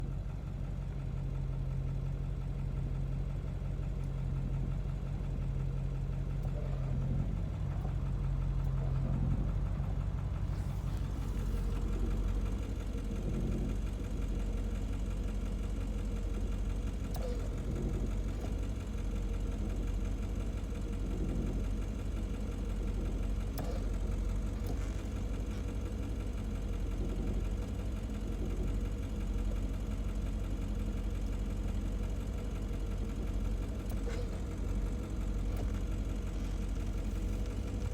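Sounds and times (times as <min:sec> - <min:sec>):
diesel engine idling: 0:00.0 - 0:37.9.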